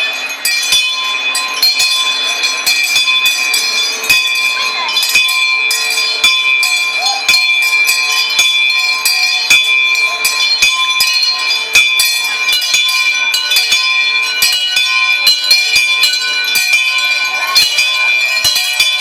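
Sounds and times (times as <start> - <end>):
many bells jangling: 0.0 - 19.0.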